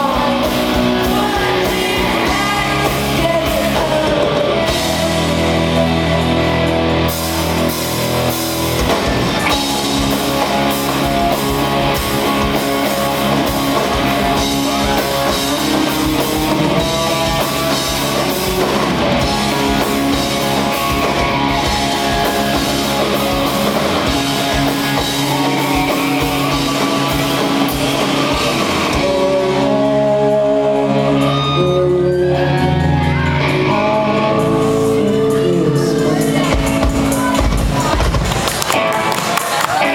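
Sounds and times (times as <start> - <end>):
drum kit beat: 0.0 - 29.9, 33.9 - 39.9
electric guitars: 0.0 - 39.9.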